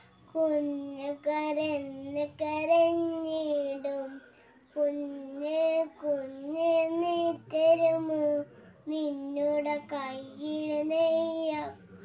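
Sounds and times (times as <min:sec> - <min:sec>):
girl singing: 0:00.0 - 0:11.8.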